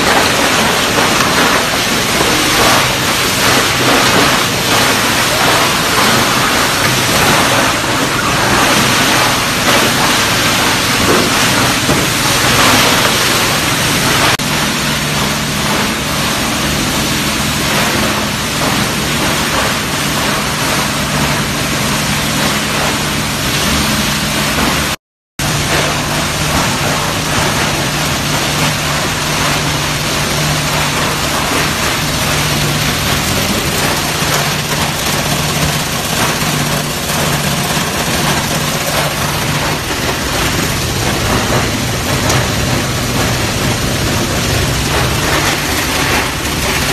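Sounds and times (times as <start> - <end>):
crusher machine shredding plastic: 0.0 - 46.9
low machine hum: 0.0 - 46.9.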